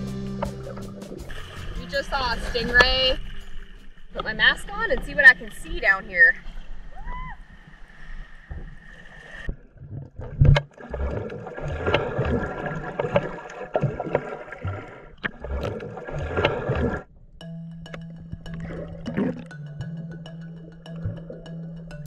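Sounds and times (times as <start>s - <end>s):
water bubbling: 0.0s - 7.2s, 8.4s - 17.1s, 18.2s - 22.0s
water sloshing and gurgling: 0.0s - 17.3s, 17.9s - 22.0s.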